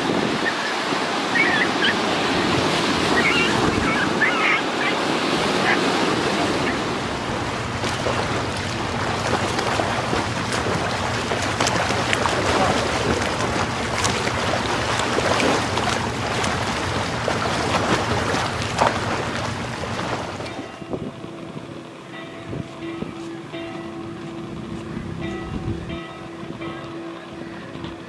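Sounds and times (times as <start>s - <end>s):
wind buffeting the microphone: 0.0s - 23.6s, 24.4s - 28.0s
low engine hum: 0.0s - 28.0s
rushing water: 0.0s - 28.0s.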